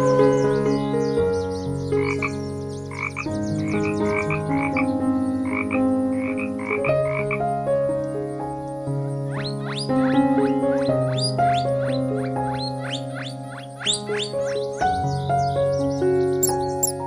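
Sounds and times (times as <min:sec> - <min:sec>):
background music: 0:00.0 - 0:17.0
frog croaking: 0:01.8 - 0:15.0, 0:16.4 - 0:17.0.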